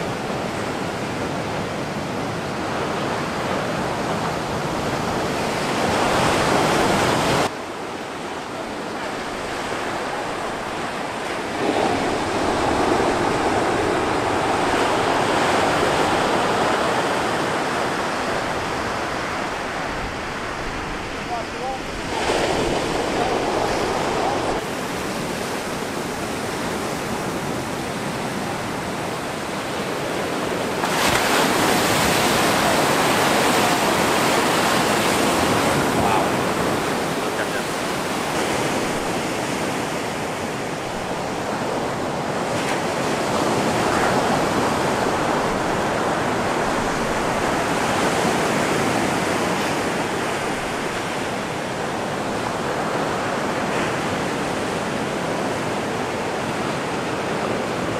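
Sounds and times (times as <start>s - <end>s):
waves breaking: 0.0s - 57.9s.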